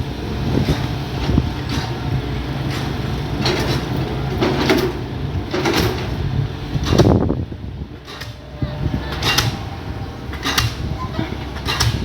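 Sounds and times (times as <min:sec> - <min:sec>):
diesel engine rumbling: 0:00.0 - 0:12.0
excavator scraping and clanking: 0:00.0 - 0:12.0.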